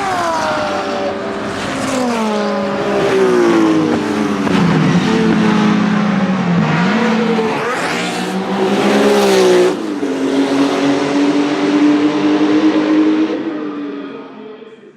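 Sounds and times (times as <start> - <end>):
race car engine revving: 0.0 - 14.5.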